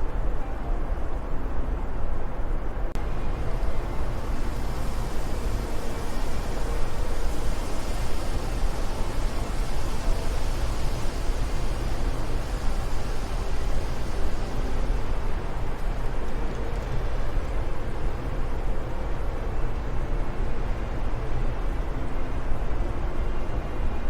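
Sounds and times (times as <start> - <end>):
wind noise: 0.0 - 24.0.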